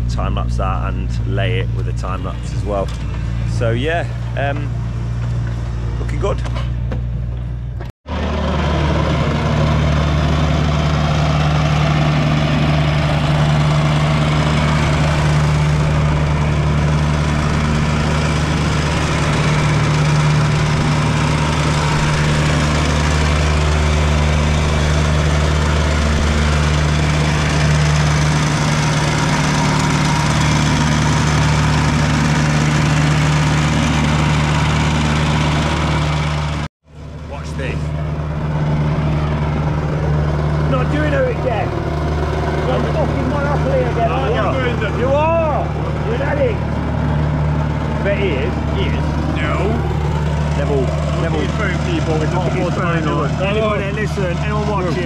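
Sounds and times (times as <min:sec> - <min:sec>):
plate compactor engine drone: 0:00.0 - 0:55.0.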